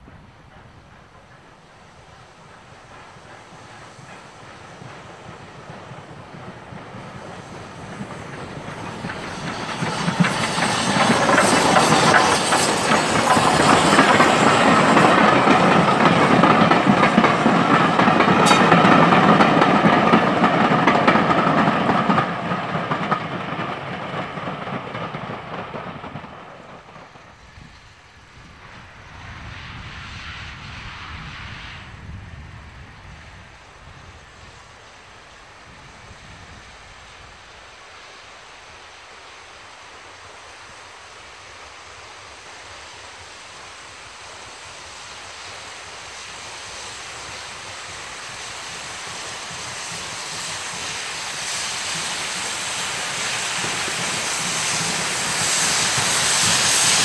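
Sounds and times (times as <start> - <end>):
steam train passing: 0.0 - 57.0.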